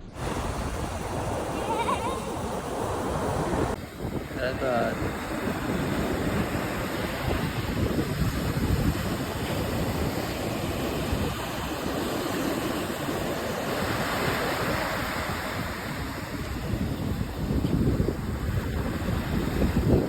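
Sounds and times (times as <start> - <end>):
ocean surf washing: 0.0 - 20.0
wind gusting on microphone: 0.0 - 20.0.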